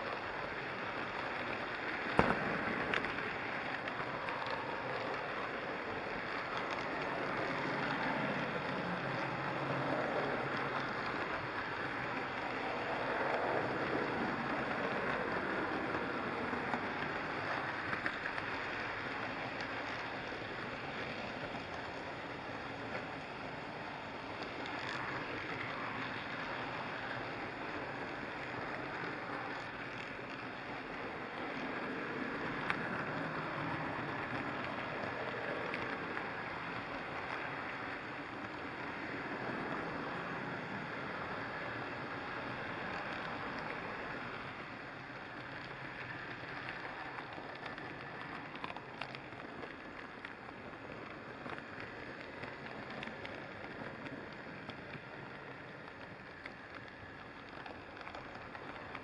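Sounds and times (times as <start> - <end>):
model train rolling rumble: 0.0 - 59.0.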